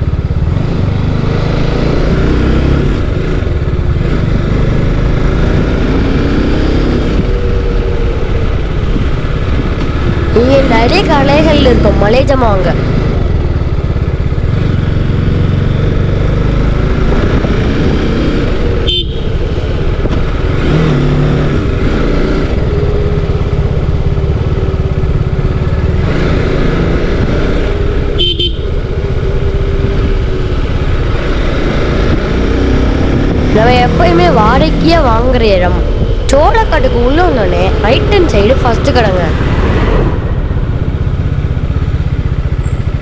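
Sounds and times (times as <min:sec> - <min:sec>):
motorcycle engine running: 0:00.0 - 0:43.0
wind and road noise: 0:00.0 - 0:43.0.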